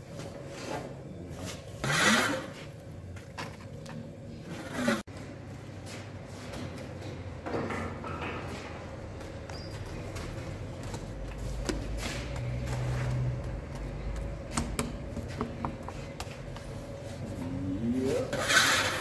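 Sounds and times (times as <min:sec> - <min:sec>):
low bakery hum: 0:00.0 - 0:19.0.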